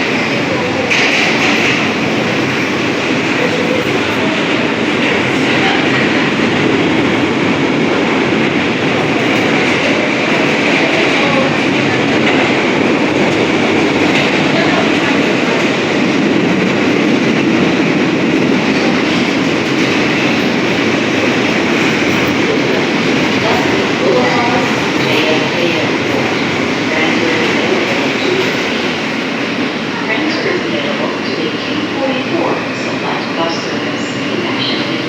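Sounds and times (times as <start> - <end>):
subway train running on rails: 0.0 - 35.0.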